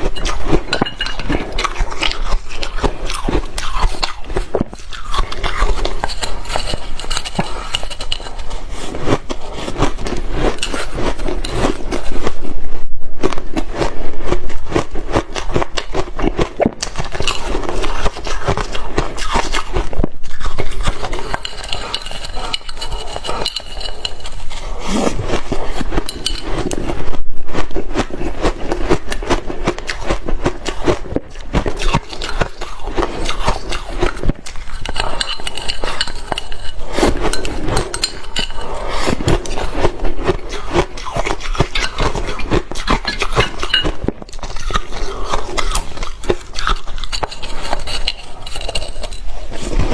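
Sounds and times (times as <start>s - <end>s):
chopsticks scraping and clinking: 0.0s - 49.9s.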